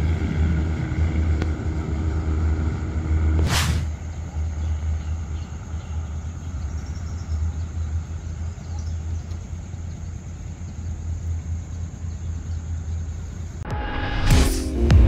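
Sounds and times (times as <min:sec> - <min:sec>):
train rumbling away: 0:00.0 - 0:15.0.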